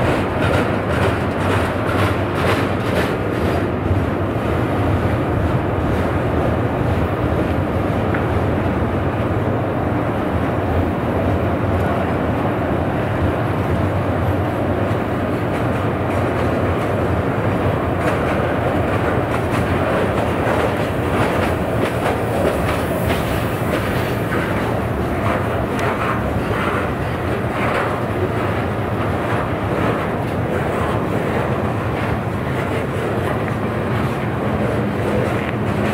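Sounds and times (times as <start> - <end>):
clickety-clack over rail joints: 0.0 - 35.9
train wheels rumbling on rail: 0.0 - 35.9.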